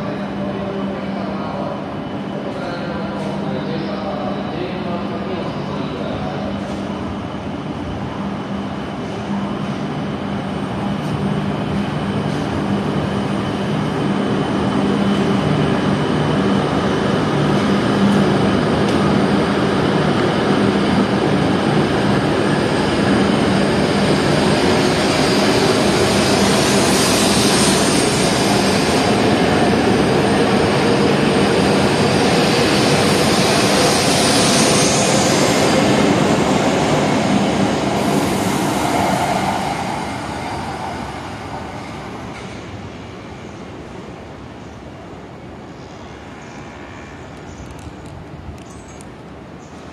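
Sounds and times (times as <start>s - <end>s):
train rushing past: 0.0s - 48.5s.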